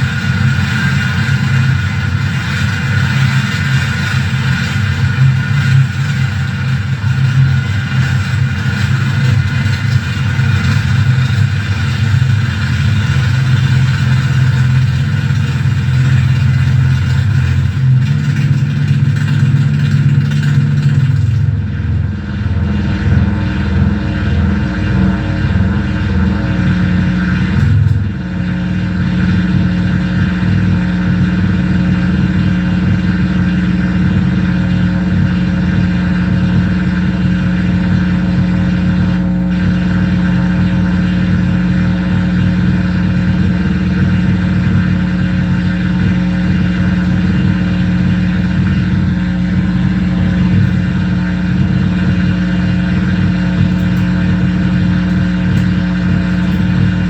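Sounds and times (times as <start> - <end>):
electronic noise drone: 0.0 - 57.0.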